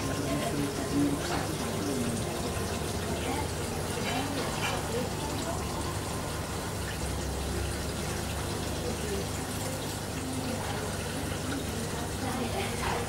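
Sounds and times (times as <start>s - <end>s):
faint voices talking: 0.0s - 13.0s.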